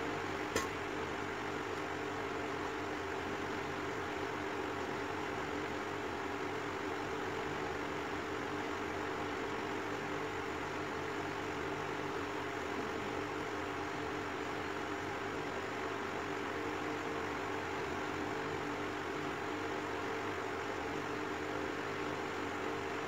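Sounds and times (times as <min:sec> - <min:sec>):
mechanical hum with hiss: 0:00.0 - 0:23.0.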